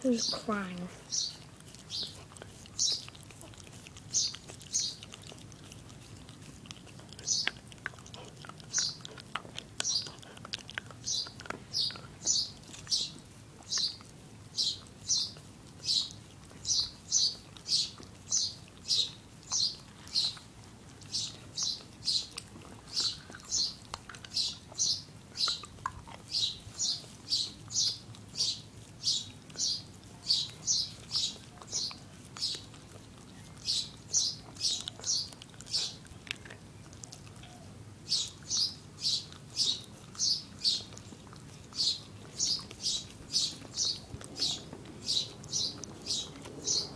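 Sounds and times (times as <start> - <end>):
dog licking wet licks: 0.1 - 46.9.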